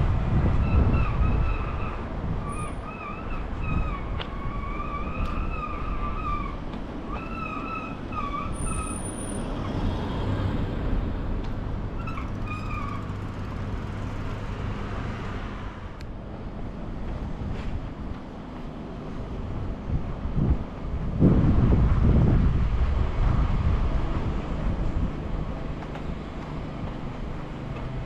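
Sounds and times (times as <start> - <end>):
road traffic: 0.0 - 28.0.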